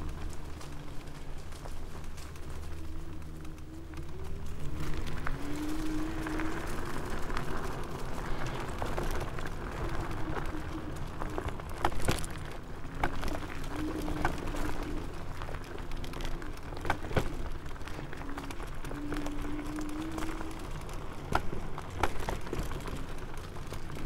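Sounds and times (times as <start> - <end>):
electric scooter motor whine: 0.0 - 24.0
scooter knocking and rattling: 0.0 - 24.0
tyres rumbling: 0.0 - 24.0
wind: 0.0 - 24.0.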